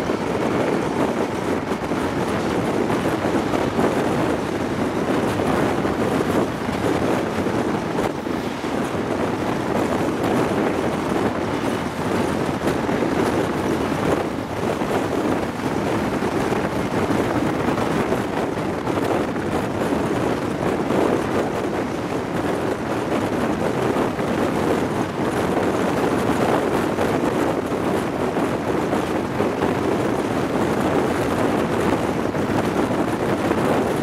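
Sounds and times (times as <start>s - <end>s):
train running on rails: 0.0s - 34.0s
wind buffeting microphone: 0.0s - 34.0s.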